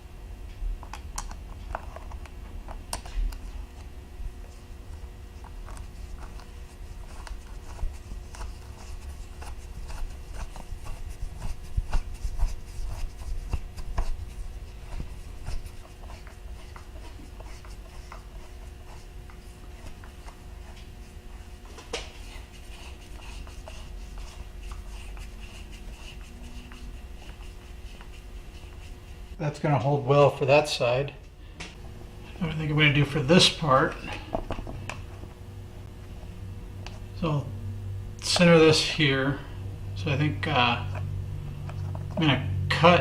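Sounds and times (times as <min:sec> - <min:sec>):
low shop hum: 0:00.0 - 0:43.0.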